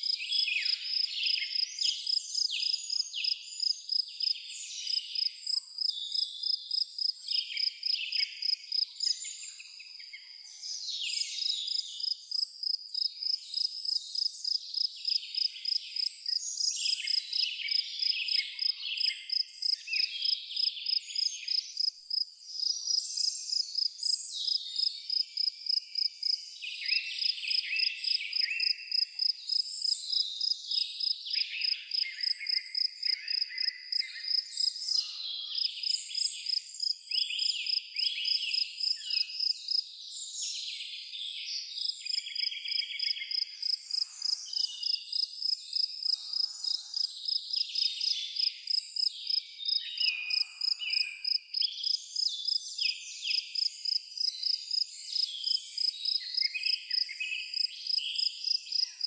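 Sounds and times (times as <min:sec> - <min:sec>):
cricket chirping: 0:00.0 - 0:10.1, 0:11.4 - 0:39.8, 0:41.8 - 0:52.6, 0:53.3 - 0:59.0
birds singing: 0:00.0 - 0:59.0.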